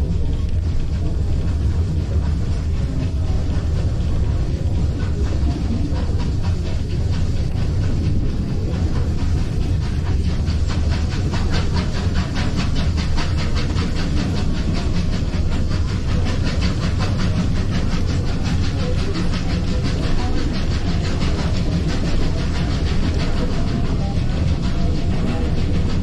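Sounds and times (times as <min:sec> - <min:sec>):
steam train running: 0:00.0 - 0:26.0.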